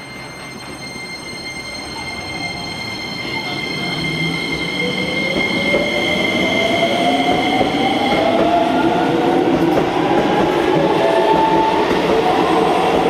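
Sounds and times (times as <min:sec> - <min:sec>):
rail noise: 0:00.0 - 0:13.0.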